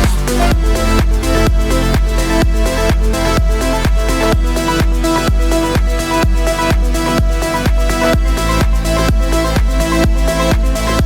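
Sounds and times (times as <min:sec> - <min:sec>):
electronic dance music: 0:00.0 - 0:11.0
kick drum beat: 0:00.0 - 0:11.0
sustained synth chords: 0:00.0 - 0:11.0.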